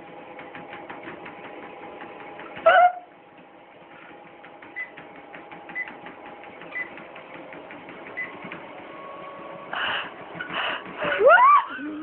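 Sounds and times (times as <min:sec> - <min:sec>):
treadmill belt ticking: 0:00.0 - 0:12.0
treadmill motor hum: 0:00.0 - 0:12.0.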